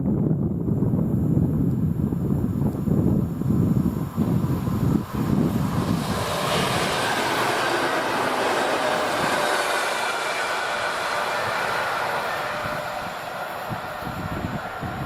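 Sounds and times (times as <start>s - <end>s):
train wheel and rail noise: 0.2s - 15.0s.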